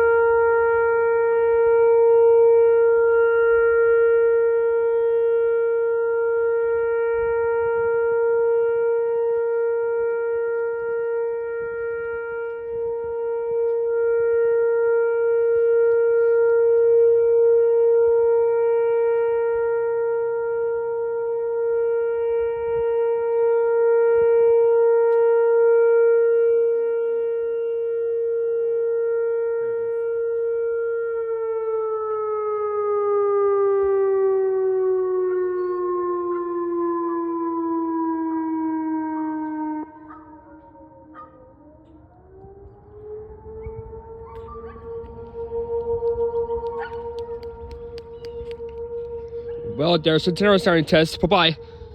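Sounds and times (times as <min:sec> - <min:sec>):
electronic warning siren tone: 0:00.0 - 0:51.9
fainter sweeping siren tone: 0:00.0 - 0:51.9.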